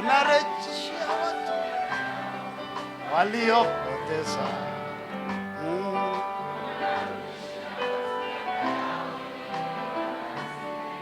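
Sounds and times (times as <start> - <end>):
background music sustained chords: 0.0 - 11.0.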